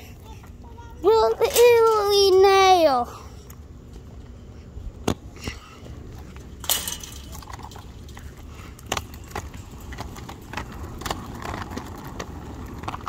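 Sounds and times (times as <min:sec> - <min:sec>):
skate wheels rumbling on concrete: 0:00.0 - 0:13.0.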